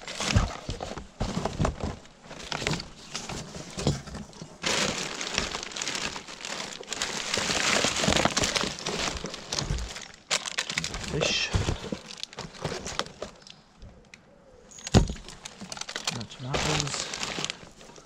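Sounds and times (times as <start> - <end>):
rustling and crinkling: 0.0 - 18.0
objects knocking and clattering: 0.2 - 10.0, 10.7 - 13.4, 14.7 - 17.5.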